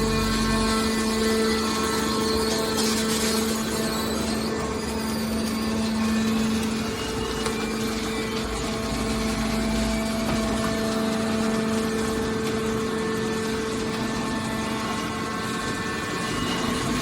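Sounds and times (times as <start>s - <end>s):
hydraulic pump humming: 0.0s - 17.0s
mechanical noise: 0.0s - 17.0s.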